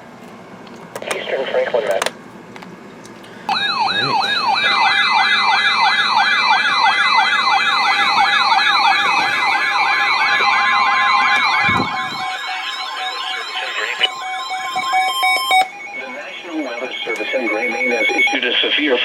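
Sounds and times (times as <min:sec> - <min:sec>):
fast warbling alarm siren: 0:03.5 - 0:19.0
higher alarm tones: 0:03.5 - 0:19.0.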